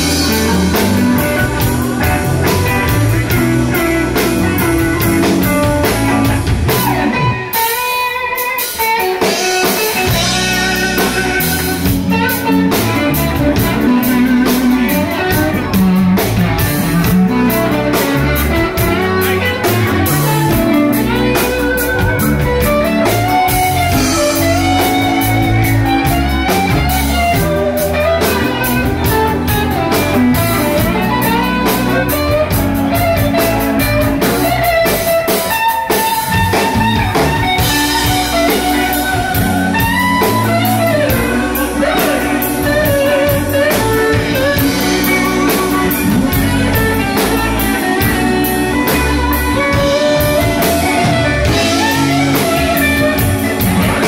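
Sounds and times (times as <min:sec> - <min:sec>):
live blues-rock band playing: 0:00.0 - 0:54.0
melodic guitar line: 0:00.0 - 0:54.0.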